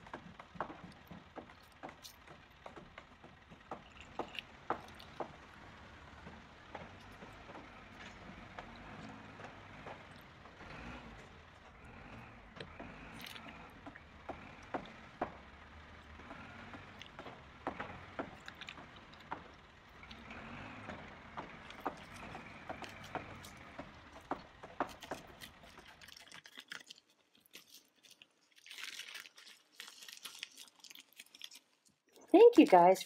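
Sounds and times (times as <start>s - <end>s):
toy trucks clicking and knocking: 0.0s - 28.5s.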